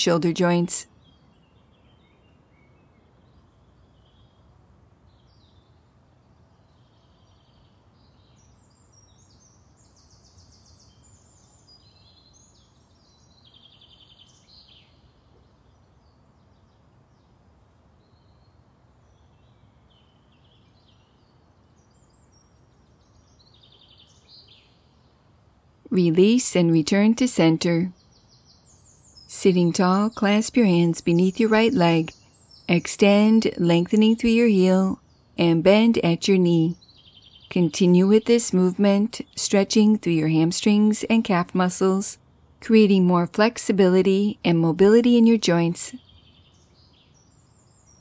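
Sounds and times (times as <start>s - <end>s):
faint birds singing: 0.0s - 48.0s
low background hiss: 0.0s - 48.0s.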